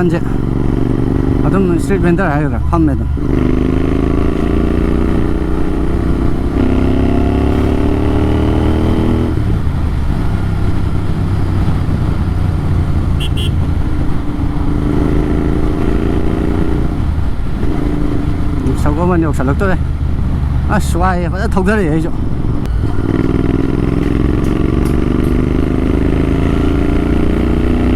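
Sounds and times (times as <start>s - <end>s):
loud motorcycle engine: 0.0s - 27.9s.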